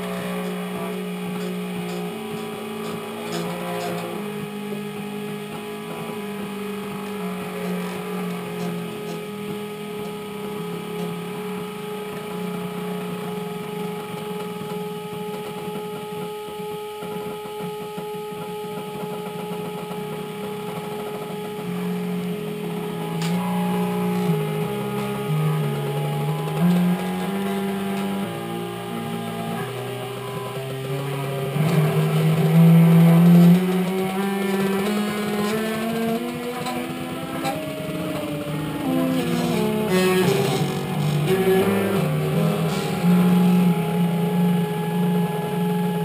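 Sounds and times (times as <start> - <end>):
stepper motors whining: 0.0 - 46.0.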